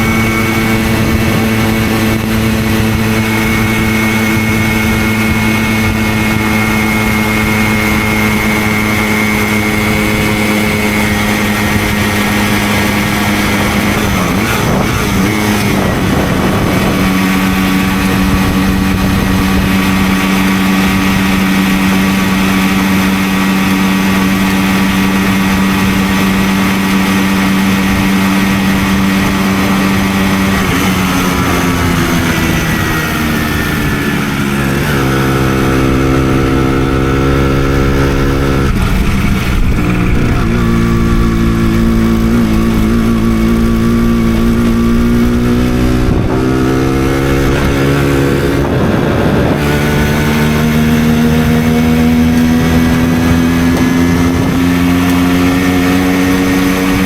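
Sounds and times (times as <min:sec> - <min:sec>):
moped engine running: 0:00.0 - 0:57.0.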